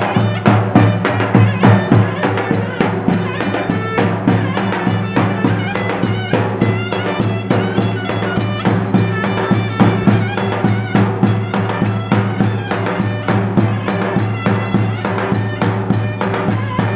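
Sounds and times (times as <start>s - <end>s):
big drum beating dance rhythm: 0.0s - 16.9s
held drone note: 0.0s - 16.9s
reedy wind instrument melody: 0.0s - 16.9s.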